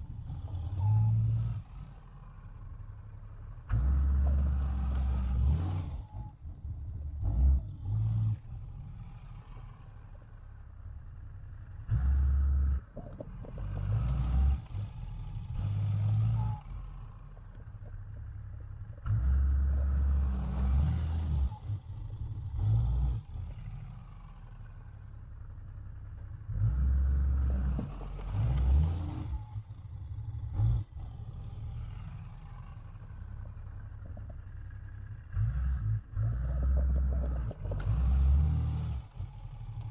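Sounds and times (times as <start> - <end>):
truck engine under load: 0.0 - 39.9.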